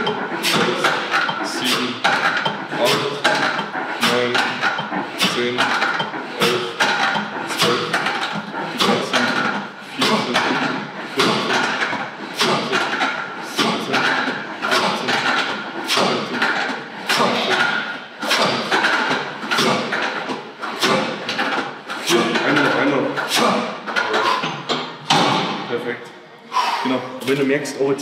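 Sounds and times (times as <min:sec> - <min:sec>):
leg press weights clanking: 0:00.0 - 0:25.7.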